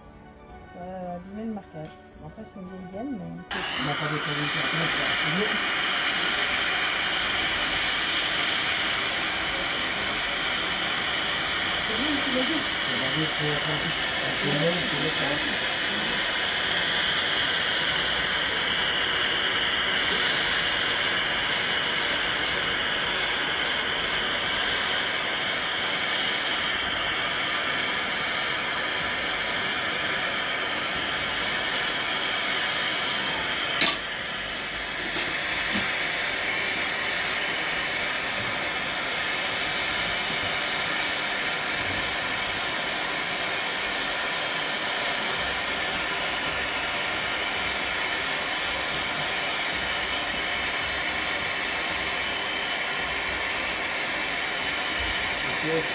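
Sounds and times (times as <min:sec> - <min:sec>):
hot air gun hissing: 0:03.5 - 0:55.9.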